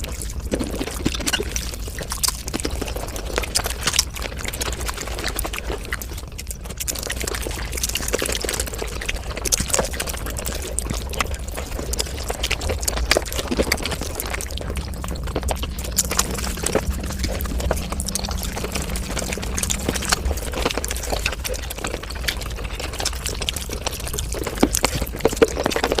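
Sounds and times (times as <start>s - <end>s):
sped-up chewing sounds: 0.0s - 26.0s.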